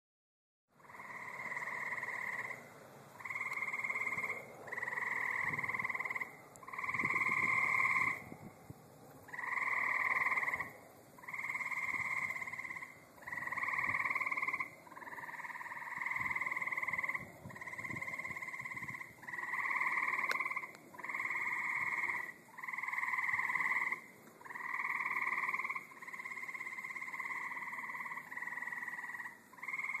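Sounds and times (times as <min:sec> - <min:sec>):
tree frogs calling: 0:00.7 - 0:30.0.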